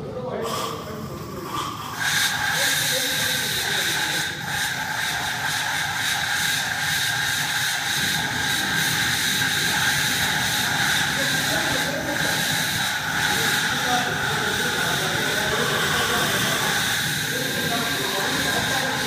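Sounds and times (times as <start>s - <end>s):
extinguisher simulator hissing rush: 0.0s - 19.0s.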